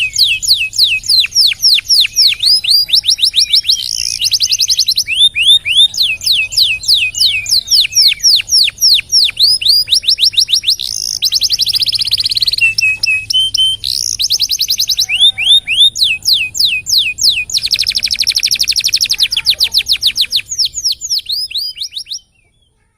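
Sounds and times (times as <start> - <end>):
canary singing: 0.0 - 22.9.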